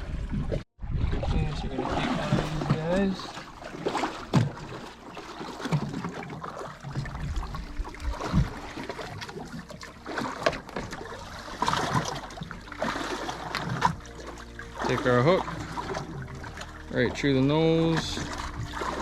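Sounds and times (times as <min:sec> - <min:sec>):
water trickling and sloshing: 0:00.0 - 0:19.0
low steady hum: 0:01.0 - 0:19.0.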